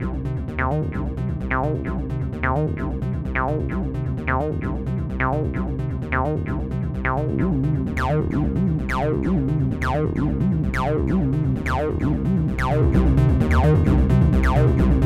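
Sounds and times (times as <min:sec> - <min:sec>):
electronic music with synthesizer: 0:00.0 - 0:15.0.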